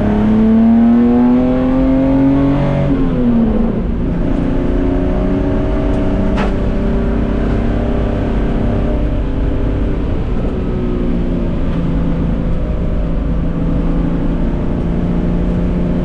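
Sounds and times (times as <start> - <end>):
race car engine pulling hard: 0.0 - 16.0.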